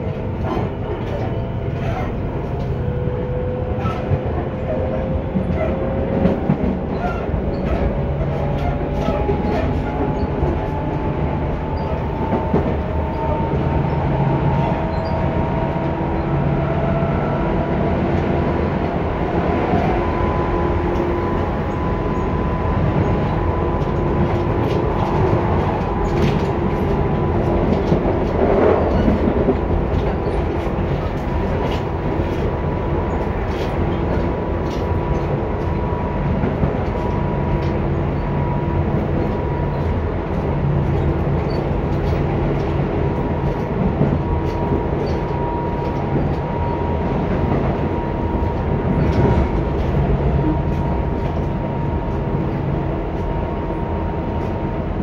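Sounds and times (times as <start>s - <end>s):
rail-joint clicks: 0.0s - 17.3s, 20.8s - 22.3s, 22.9s - 54.8s
train wheels rumbling: 0.0s - 55.0s.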